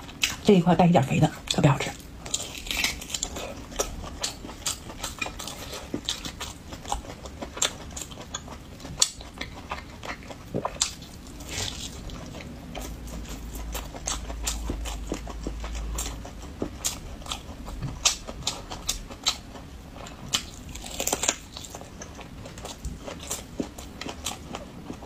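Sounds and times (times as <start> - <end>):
chewing meat: 0.0 - 0.6, 1.3 - 25.0.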